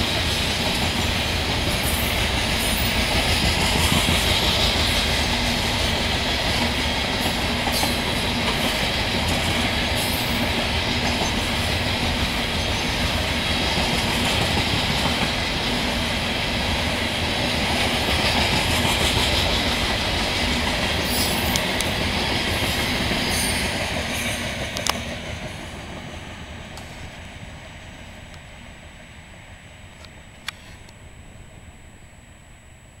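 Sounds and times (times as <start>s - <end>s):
train wheels clacking on rail: 0.0s - 27.4s.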